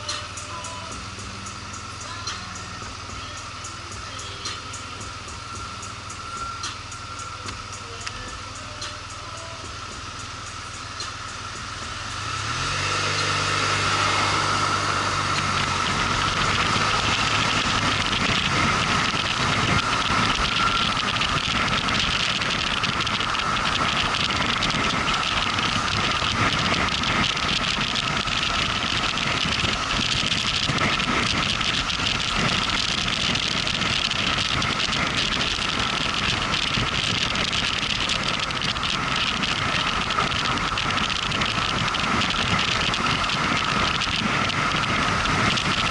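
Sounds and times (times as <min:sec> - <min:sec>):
motorcycle engine: 0:00.0 - 0:45.9
wind and road noise: 0:00.0 - 0:45.9.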